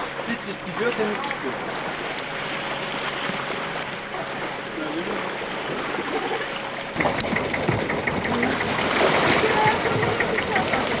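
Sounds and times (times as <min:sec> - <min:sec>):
boat engine knocking: 0:00.0 - 0:11.0
water sloshing: 0:00.0 - 0:11.0.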